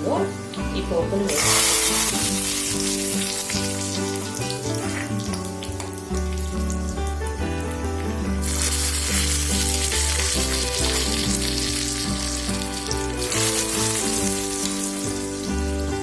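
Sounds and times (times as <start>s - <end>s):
hot oil sizzling: 0.0s - 16.0s
instrumental background music: 0.0s - 16.0s.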